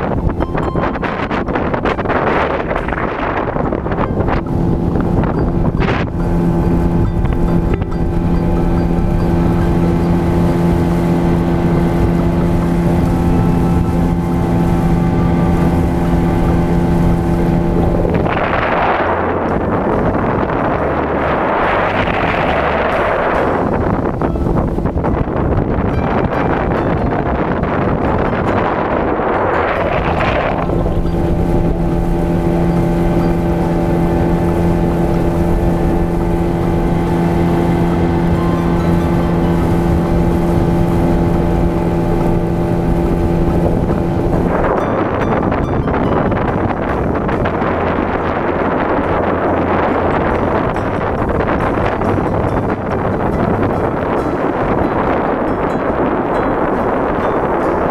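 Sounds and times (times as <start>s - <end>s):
boat motor running: 0.0s - 57.9s
wind and water noise: 0.0s - 57.9s.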